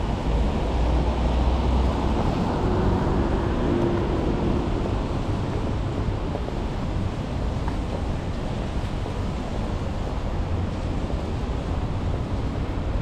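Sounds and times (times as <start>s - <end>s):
rain and wet traffic hiss: 0.0s - 13.0s.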